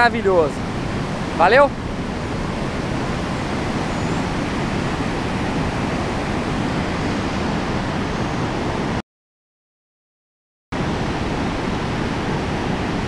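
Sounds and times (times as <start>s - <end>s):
waterfall and rapids rushing: 0.0s - 9.0s, 10.8s - 13.0s.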